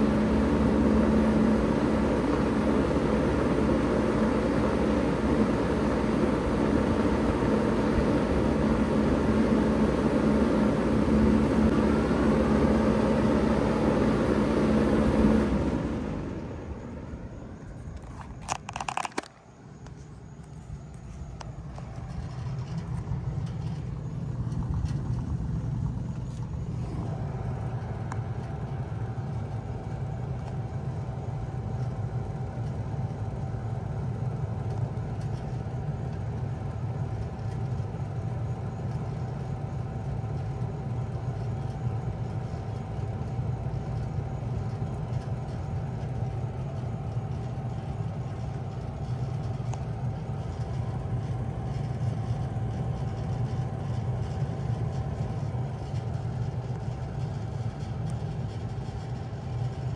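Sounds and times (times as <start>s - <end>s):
compressor and fan hum: 0.0s - 59.9s
thin steady whine: 0.0s - 59.9s.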